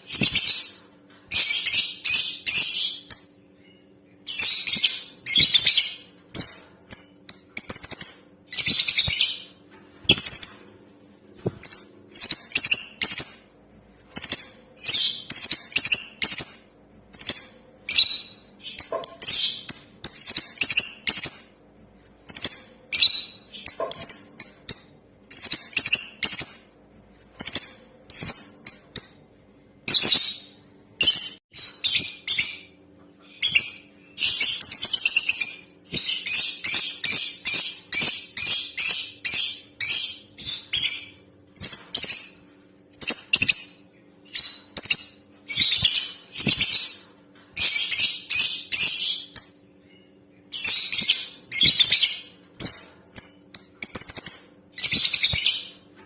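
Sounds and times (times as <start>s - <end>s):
lovebird chirping: 0.0s - 10.8s, 11.5s - 13.6s, 14.2s - 21.6s, 22.3s - 26.8s, 27.4s - 55.8s.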